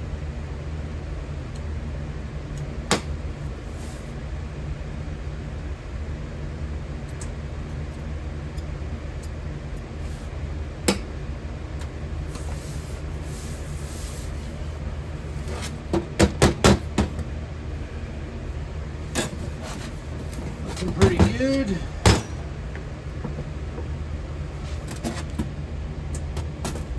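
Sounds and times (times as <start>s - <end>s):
furnace low rumble: 0.0s - 26.9s.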